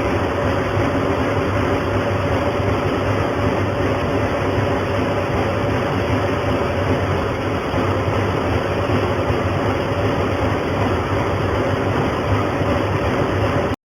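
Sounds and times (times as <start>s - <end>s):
machine humming and hissing: 0.0s - 13.7s.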